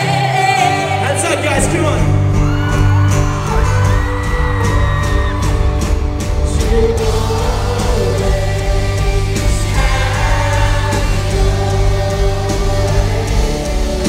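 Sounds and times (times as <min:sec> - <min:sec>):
live rock band playing: 0:00.0 - 0:14.0
person singing: 0:00.0 - 0:14.0
crowd whooping and yelling: 0:01.9 - 0:14.0.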